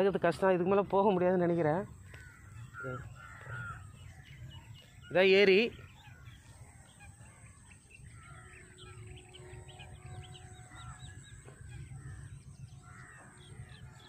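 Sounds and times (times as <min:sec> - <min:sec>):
birds chirping: 0:00.0 - 0:14.0
warbling bird calls: 0:00.0 - 0:14.0.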